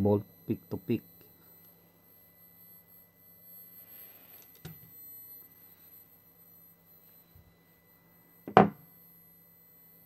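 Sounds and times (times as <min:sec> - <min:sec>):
low amplifier hum: 0:00.0 - 0:10.0.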